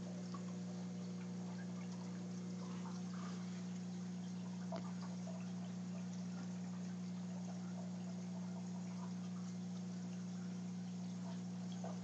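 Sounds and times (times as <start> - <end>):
aquarium water bubbling: 0.0 - 12.0
tank pump humming: 0.0 - 12.0
water drips and pops: 0.0 - 12.0.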